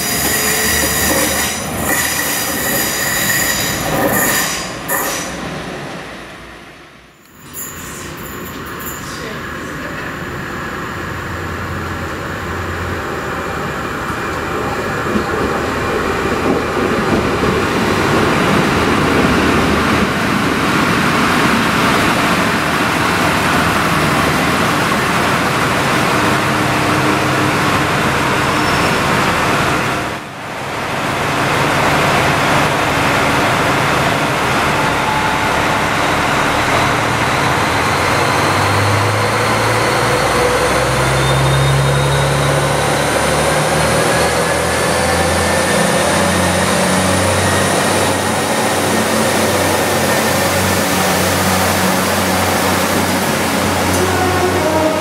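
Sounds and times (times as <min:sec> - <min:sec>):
diesel train engines and wheels rumbling: 0:00.0 - 0:55.0.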